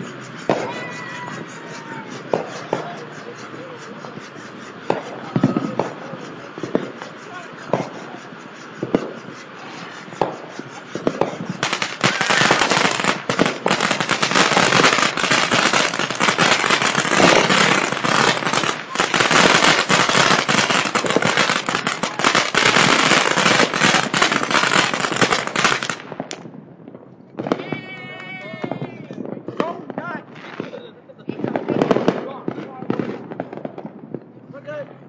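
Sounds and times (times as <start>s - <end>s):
fireworks bangs: 0.0s - 35.0s
fireworks crackling pops: 0.0s - 35.0s.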